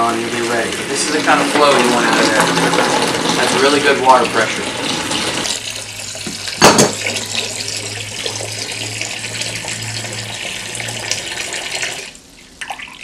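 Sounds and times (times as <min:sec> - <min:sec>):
water streaming into plastic bucket: 0:00.0 - 0:13.0.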